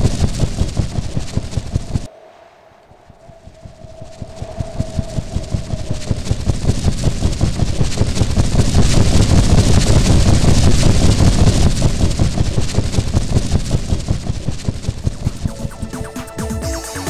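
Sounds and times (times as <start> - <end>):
train rumbling and rattling: 0.0 - 15.8.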